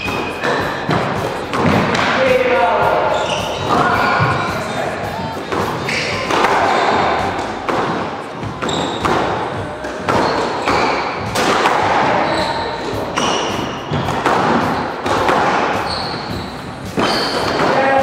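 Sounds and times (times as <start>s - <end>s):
ball smacking court walls: 0.0s - 4.5s, 5.4s - 17.9s
shoes squeaking on wooden floor: 0.0s - 18.0s
squash ball hitting rackets: 0.0s - 18.0s.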